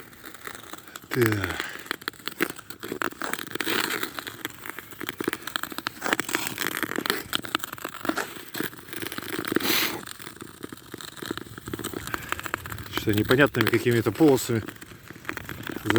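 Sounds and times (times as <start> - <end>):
footsteps crunching on snowy ice: 0.0 - 15.9
hissing scrape on ice: 0.0 - 15.9.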